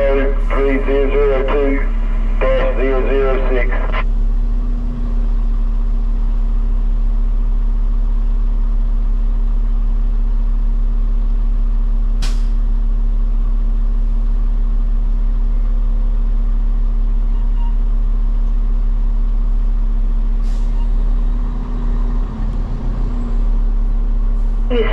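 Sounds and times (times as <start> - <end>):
truck diesel engine idling: 0.0 - 24.9.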